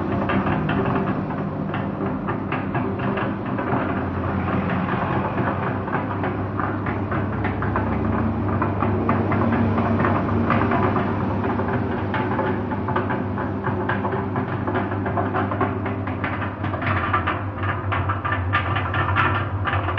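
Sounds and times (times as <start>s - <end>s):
drum clicking and knocking: 0.0s - 19.9s.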